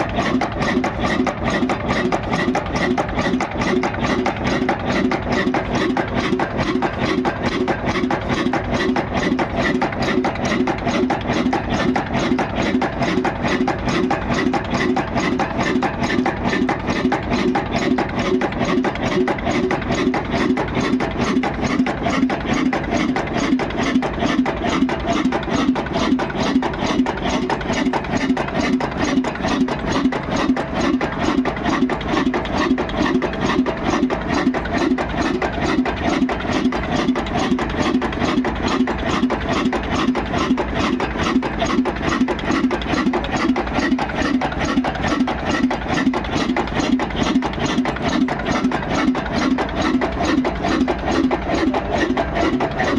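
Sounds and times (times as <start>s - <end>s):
stationary diesel engine running: 0.0s - 52.9s.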